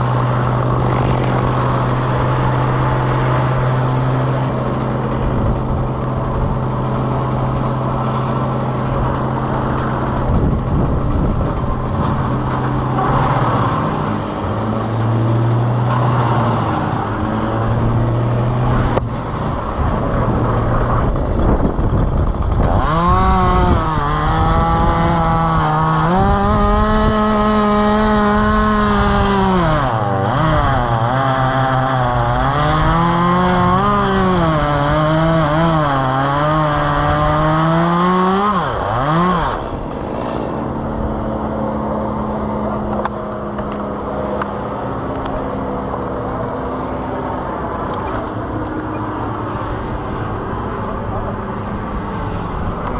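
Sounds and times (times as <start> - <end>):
chainsaw cutting wood: 0.0 - 51.6
steady engine hum: 0.0 - 52.9.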